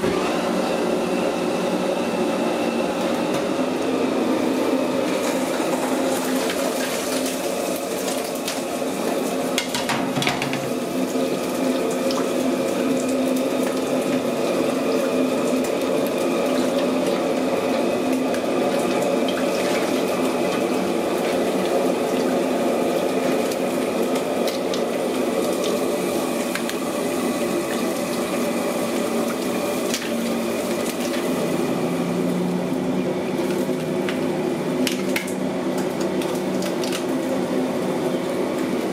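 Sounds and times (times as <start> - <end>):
steady kitchen hum: 0.0 - 38.9.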